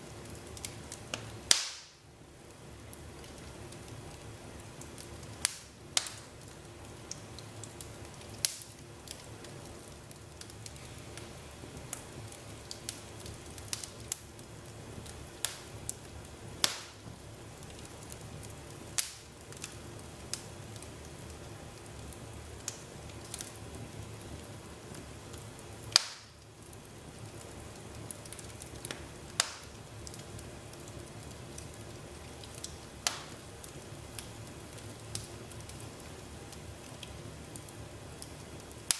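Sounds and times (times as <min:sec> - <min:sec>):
fire crackling: 0:00.0 - 0:38.9
sharp pops of fire: 0:00.2 - 0:02.1, 0:02.9 - 0:36.1, 0:36.9 - 0:38.9.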